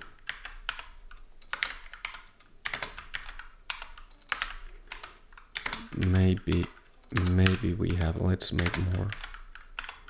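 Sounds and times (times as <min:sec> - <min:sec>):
typing on a computer keyboard: 0:00.0 - 0:10.0.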